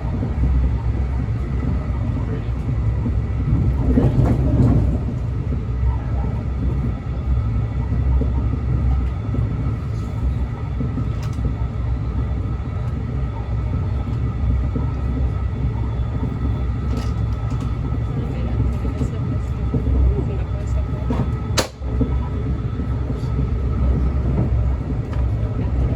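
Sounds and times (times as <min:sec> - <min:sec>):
train rumbling: 0:00.0 - 0:25.9.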